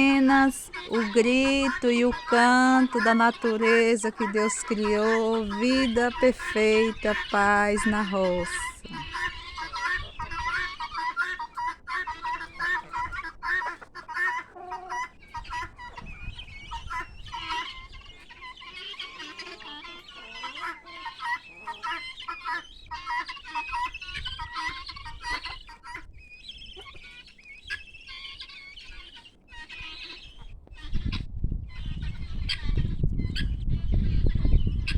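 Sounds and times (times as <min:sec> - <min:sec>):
guinea fowl calling: 0:00.0 - 0:34.9.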